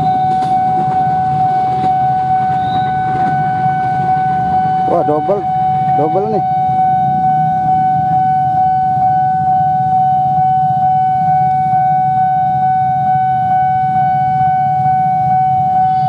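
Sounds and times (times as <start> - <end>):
level-crossing alarm high tone: 0.0 - 16.0.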